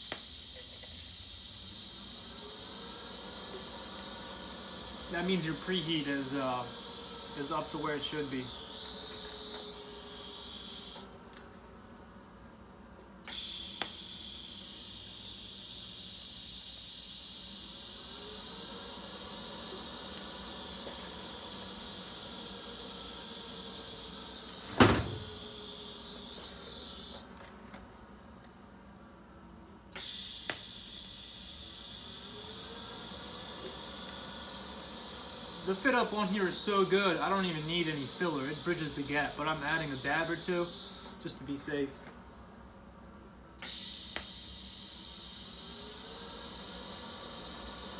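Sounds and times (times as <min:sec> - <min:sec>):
welding arc hissing and whining: 0:00.0 - 0:11.2, 0:13.3 - 0:27.5, 0:29.9 - 0:42.1, 0:43.6 - 0:47.9.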